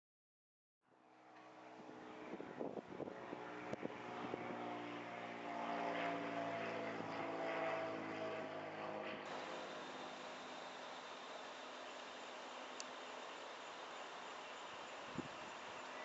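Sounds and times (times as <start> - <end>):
engine drone: 1.2 - 16.0.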